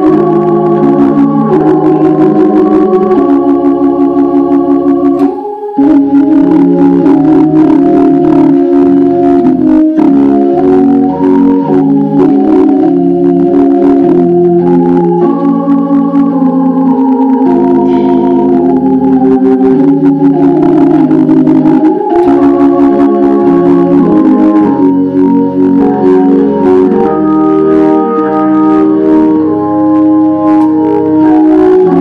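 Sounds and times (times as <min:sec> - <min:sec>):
organ playing sustained chords: 0:00.0 - 0:32.0.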